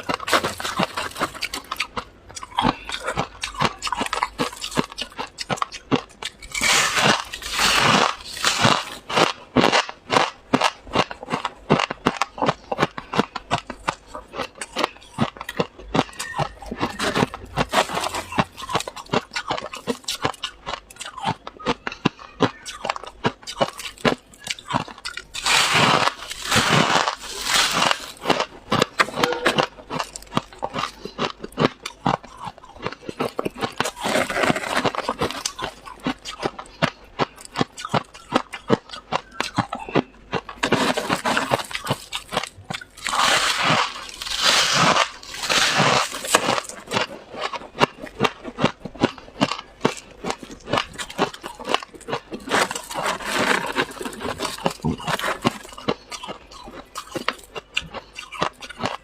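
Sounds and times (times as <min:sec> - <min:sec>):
frost being chewed crunching: 0:00.0 - 0:59.0.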